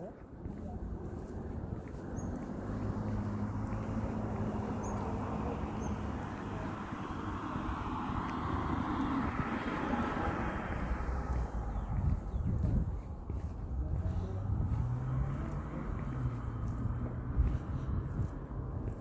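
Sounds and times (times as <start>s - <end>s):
car passing: 0.0s - 19.0s
steady low rumble: 0.0s - 19.0s.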